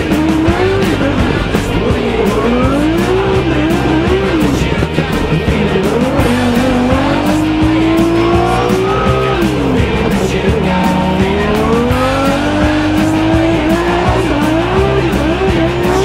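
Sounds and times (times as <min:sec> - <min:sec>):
car engine revving: 0:00.0 - 0:16.0
music with steady beat: 0:00.0 - 0:16.0.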